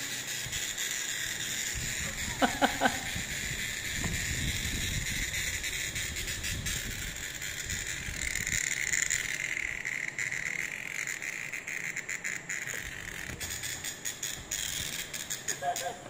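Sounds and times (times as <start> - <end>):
cicada buzzing: 0.0 - 16.0.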